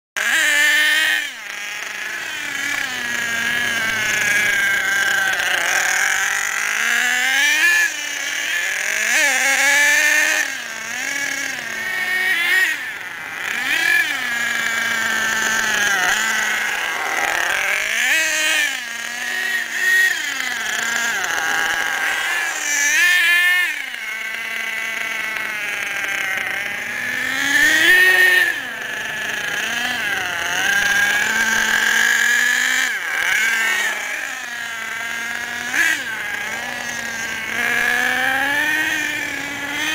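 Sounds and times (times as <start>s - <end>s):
model engine revving: 0.2s - 39.9s.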